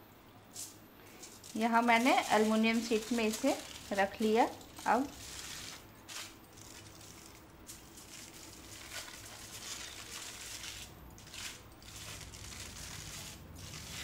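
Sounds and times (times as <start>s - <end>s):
aluminium foil crinkling: 0.6s - 14.0s.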